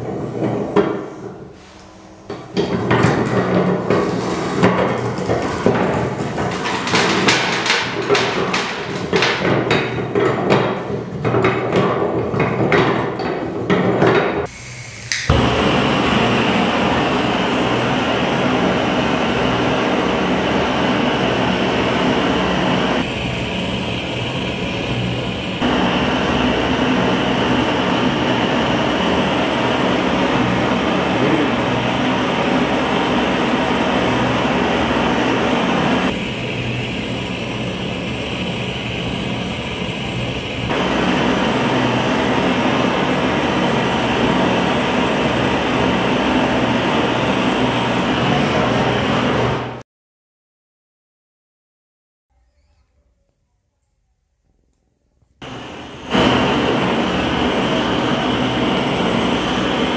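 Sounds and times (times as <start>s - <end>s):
blowtorch flame roaring: 2.3s - 49.8s, 55.4s - 59.9s.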